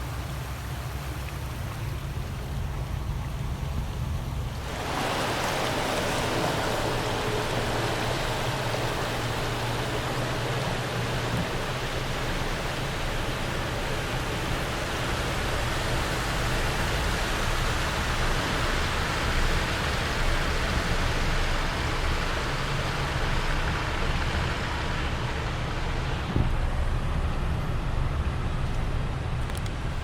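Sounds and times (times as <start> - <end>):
car engine and tyres rumbling: 0.0 - 30.0
water spraying against car: 0.0 - 30.0.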